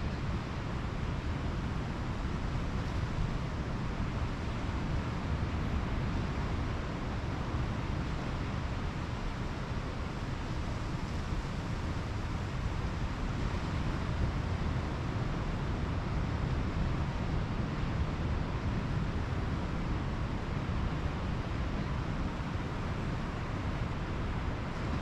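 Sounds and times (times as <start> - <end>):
ocean surf washing on beach: 0.0 - 25.0.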